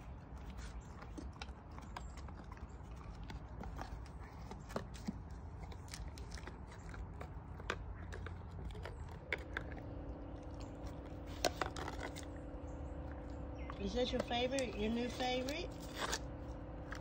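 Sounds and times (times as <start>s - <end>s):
dog gnawing chew stick: 0.0s - 17.0s
steady low hum: 0.0s - 17.0s.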